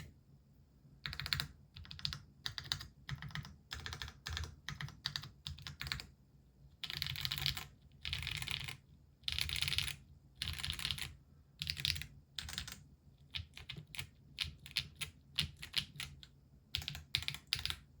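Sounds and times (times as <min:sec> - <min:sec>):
mechanical keyboard typing: 0:01.0 - 0:06.1, 0:06.8 - 0:17.9.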